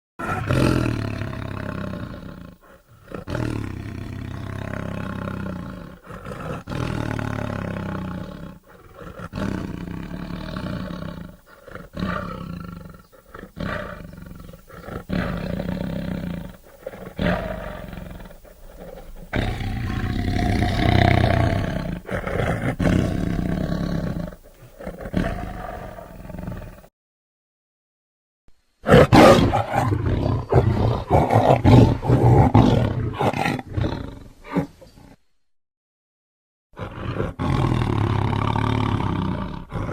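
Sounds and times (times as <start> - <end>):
tiger roaring and growling: 0.2 - 26.9, 28.9 - 34.8, 36.8 - 39.9.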